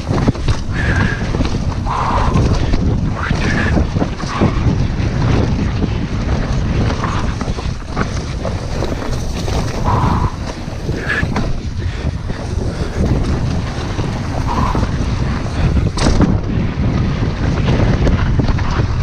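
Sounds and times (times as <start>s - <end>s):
bike rattling over dirt: 0.0s - 19.0s
wind buffeting microphone: 0.0s - 19.0s.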